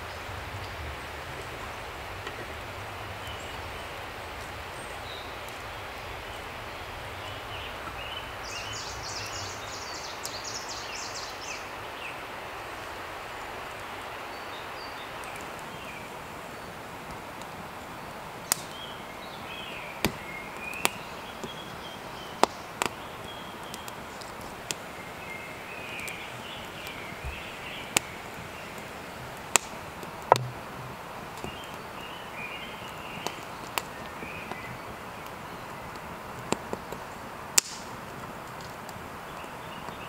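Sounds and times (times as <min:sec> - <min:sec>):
birds chirping: 0:00.0 - 0:40.0
campfire crackling and popping: 0:00.0 - 0:40.0.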